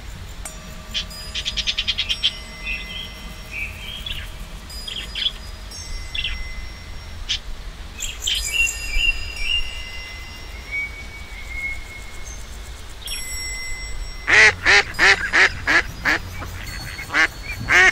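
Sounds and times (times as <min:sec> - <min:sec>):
birds chirping: 0:00.0 - 0:17.9
faint steady tones: 0:00.0 - 0:17.9.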